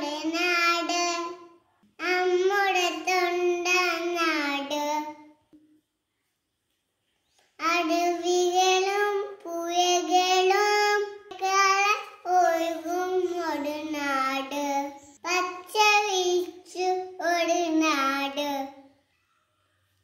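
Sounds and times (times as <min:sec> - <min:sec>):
girl singing: 0:00.0 - 0:05.2, 0:07.6 - 0:18.8.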